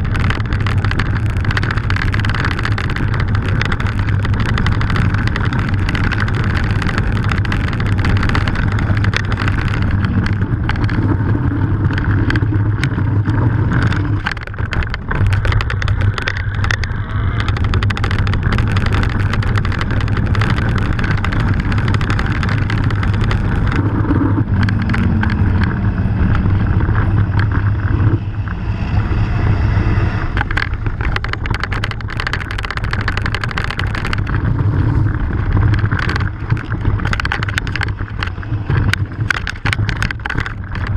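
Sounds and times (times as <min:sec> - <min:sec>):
stones and bike rattling: 0:00.0 - 0:40.9
tyres rumbling on gravel: 0:00.0 - 0:40.9
wind buffeting microphone: 0:00.0 - 0:40.9.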